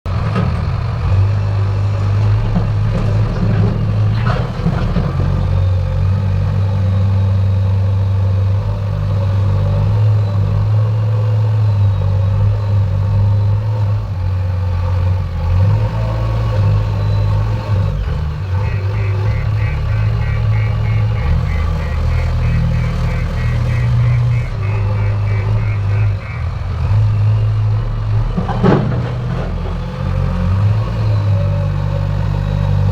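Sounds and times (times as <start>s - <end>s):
heavy diesel engine running: 0.1s - 32.9s.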